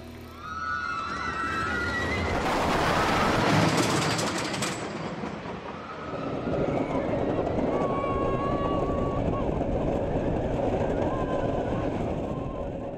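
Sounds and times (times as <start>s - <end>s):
roller coaster rushing past: 0.3s - 12.9s.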